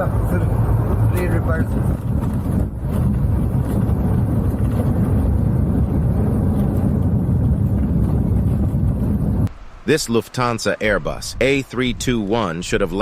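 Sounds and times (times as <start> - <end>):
aircraft rumble: 0.0 - 13.0
wind noise: 0.0 - 13.0.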